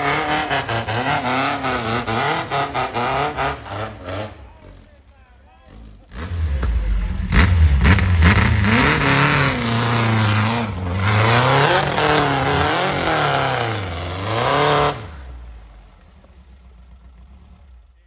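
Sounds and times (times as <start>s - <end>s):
off-road buggy engine revving: 0.0s - 18.0s.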